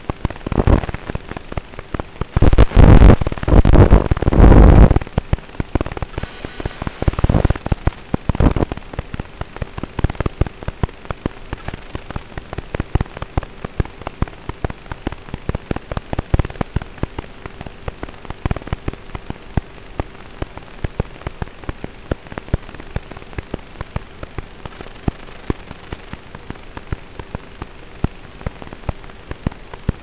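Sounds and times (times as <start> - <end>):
dense irregular crackling and popping: 0.0 - 30.0
faint steady hum: 0.0 - 30.0.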